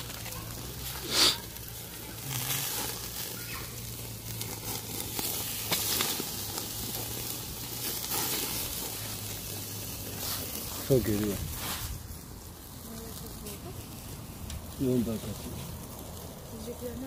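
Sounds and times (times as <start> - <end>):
fire crackling: 0.0 - 17.0
meat sizzling on a grill: 0.0 - 17.0.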